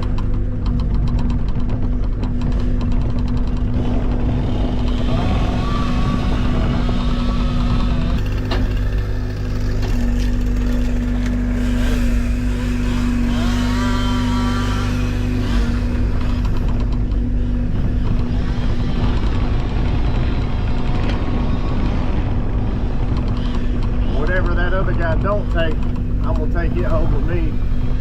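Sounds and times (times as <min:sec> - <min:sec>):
loader engine running under load: 0:00.0 - 0:28.0.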